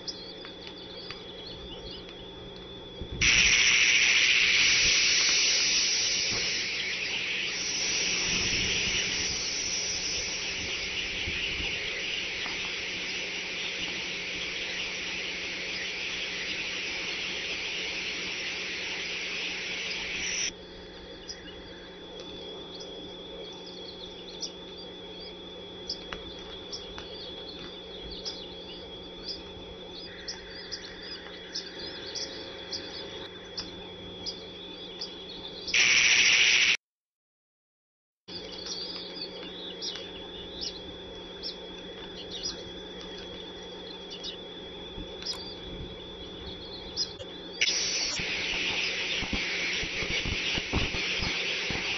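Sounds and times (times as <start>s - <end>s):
thin high whine: 0.0s - 36.8s, 38.3s - 51.9s
steady high hiss: 2.0s - 36.8s, 38.4s - 51.9s.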